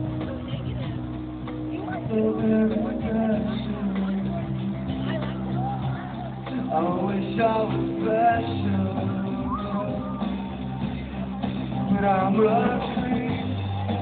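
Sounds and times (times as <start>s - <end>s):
live rock band playing: 0.0s - 14.0s
person singing: 2.0s - 14.0s.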